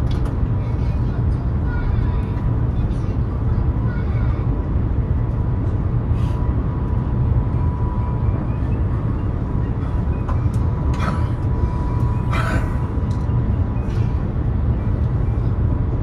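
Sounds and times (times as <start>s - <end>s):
faint steady whine: 0.0s - 16.0s
train interior rumble: 0.0s - 16.0s.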